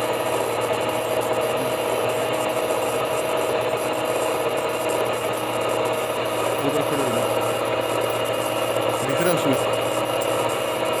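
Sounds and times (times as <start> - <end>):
brake drum lathe running: 0.0 - 11.0.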